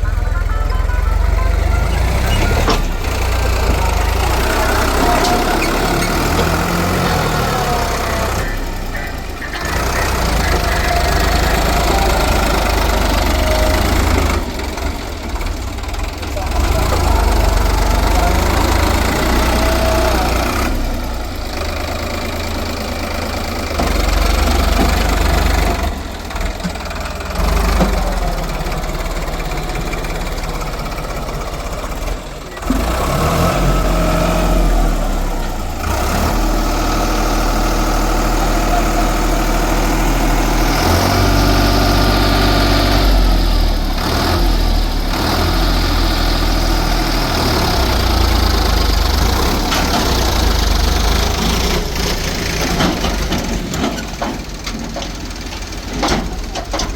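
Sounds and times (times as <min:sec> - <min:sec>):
diesel engine running loudly: 0:00.0 - 0:56.9.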